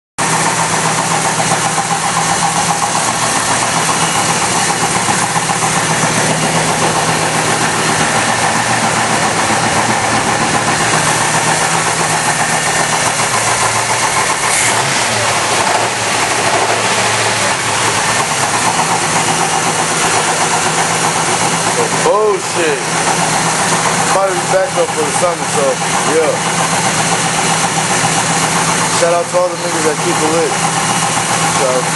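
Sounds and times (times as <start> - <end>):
car engine idling with knock: 0.2 - 31.9.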